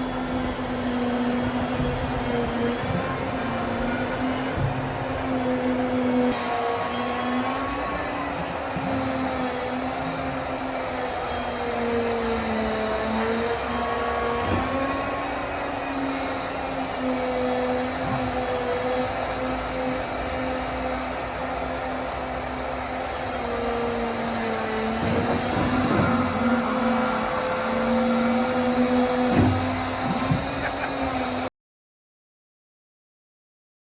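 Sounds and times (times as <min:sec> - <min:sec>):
machine driveline whining: 0:00.0 - 0:31.5.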